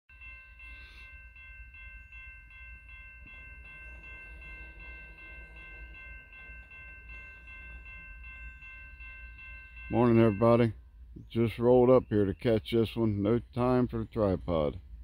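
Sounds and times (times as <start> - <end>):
crossing bell ringing: 0.1 - 15.0
diesel locomotive rumble: 0.2 - 15.0.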